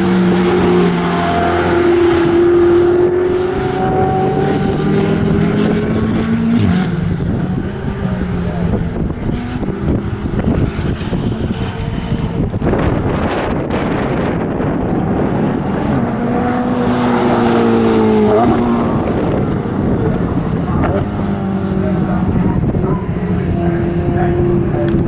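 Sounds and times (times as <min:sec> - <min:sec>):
car engine accelerating: 0:00.0 - 0:25.0
wind buffeting microphone: 0:01.7 - 0:25.0.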